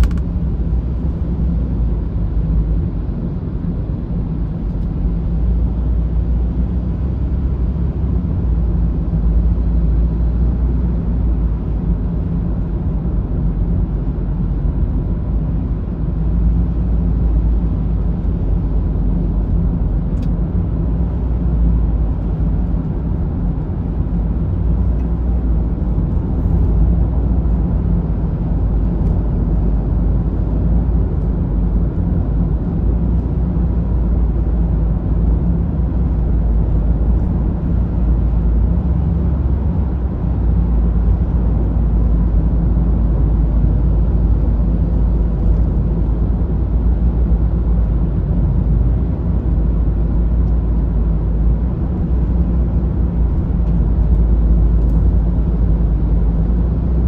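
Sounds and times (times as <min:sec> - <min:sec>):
road rumble inside a car: 0:00.0 - 0:57.0.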